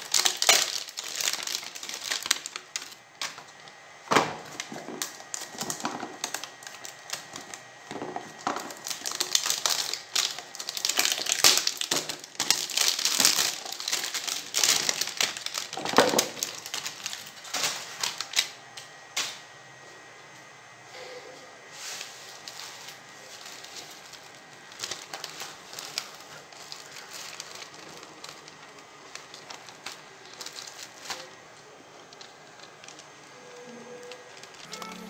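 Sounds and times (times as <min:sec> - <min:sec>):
plastic film crinkling: 0:00.0 - 0:19.4, 0:21.7 - 0:35.0.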